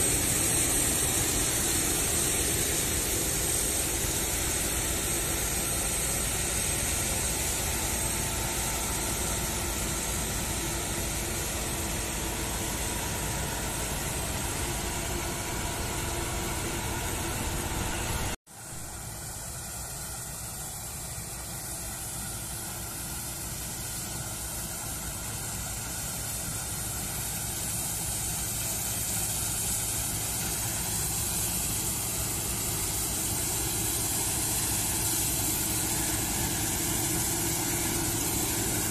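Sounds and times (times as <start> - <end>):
combine harvester drone: 0.0 - 38.9
hiss: 0.0 - 38.9.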